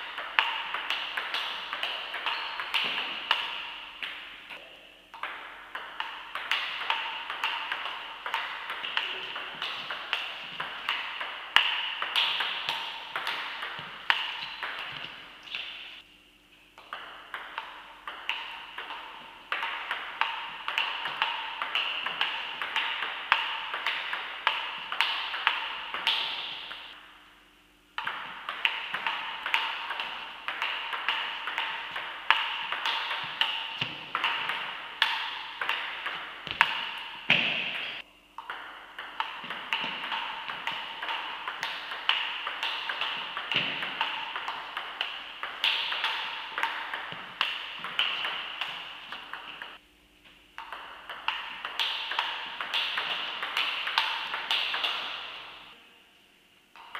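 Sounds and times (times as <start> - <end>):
table tennis ball clicking: 0.1 - 4.2, 5.1 - 15.8, 16.8 - 26.9, 28.0 - 37.4, 38.4 - 49.8, 50.6 - 55.4.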